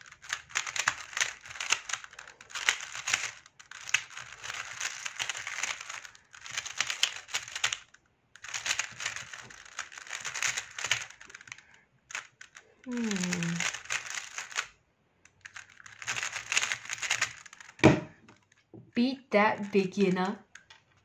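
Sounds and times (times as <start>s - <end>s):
speed cube clicking: 0.0s - 18.5s.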